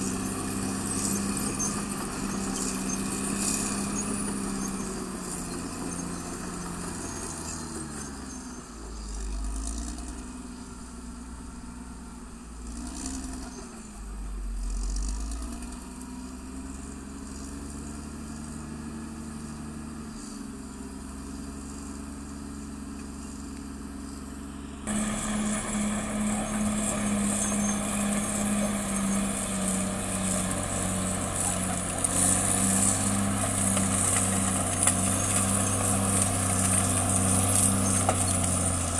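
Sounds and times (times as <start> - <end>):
bulldozer diesel engine working: 0.0 - 38.9.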